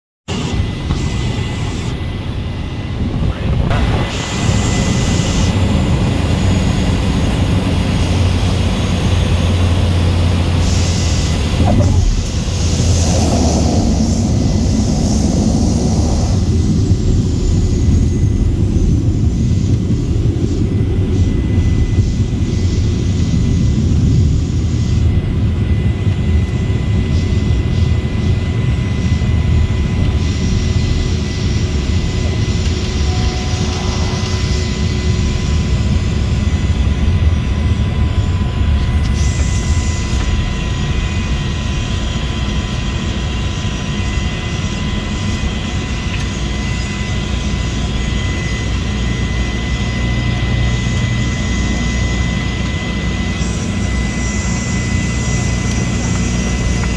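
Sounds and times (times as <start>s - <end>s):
airplane engine and propeller drone: 0.3s - 56.9s
thin steady whine: 0.3s - 56.9s.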